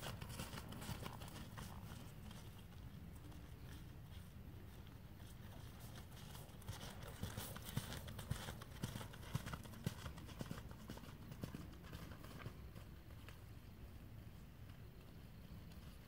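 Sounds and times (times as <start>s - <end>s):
hoofbeats on dirt: 0.0s - 13.8s.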